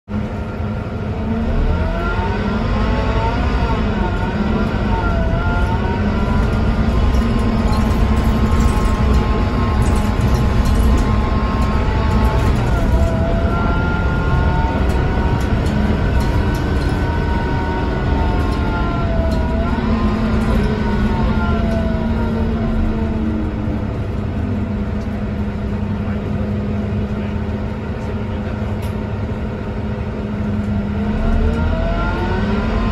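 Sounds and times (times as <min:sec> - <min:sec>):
bus engine drone: 0:00.0 - 0:32.9
gearbox whine: 0:00.2 - 0:32.9.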